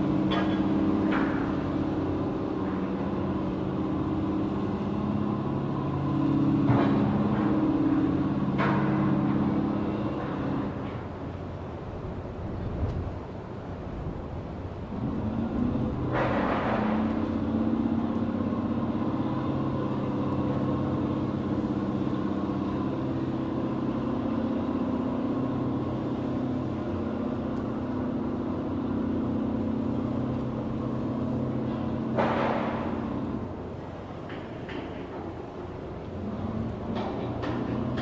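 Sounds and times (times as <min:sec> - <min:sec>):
engine running with low hum: 0:00.0 - 0:38.0.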